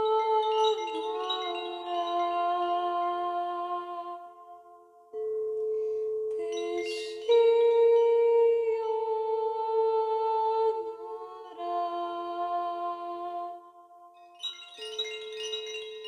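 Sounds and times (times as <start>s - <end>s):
slow meditative humming music: 0.0s - 16.0s.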